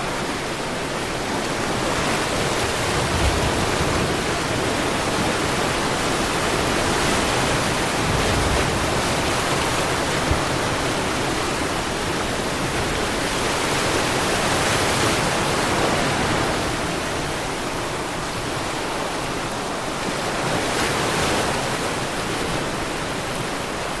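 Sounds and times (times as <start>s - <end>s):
waves rushing: 0.0s - 24.0s.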